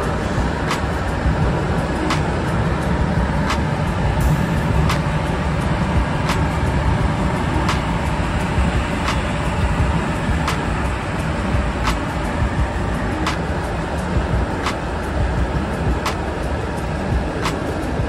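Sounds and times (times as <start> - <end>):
rumble of rushing air: 0.0 - 18.0.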